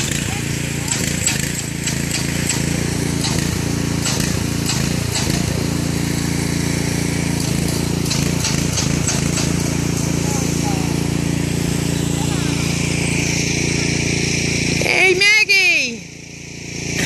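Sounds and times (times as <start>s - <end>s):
machine motor running: 0.0s - 17.0s.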